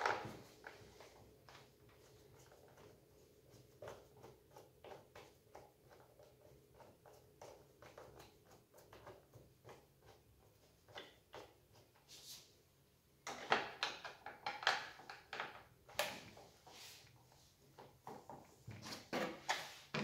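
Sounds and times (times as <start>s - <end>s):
plastic parts knocking and scraping: 0.0s - 12.0s, 13.2s - 20.0s.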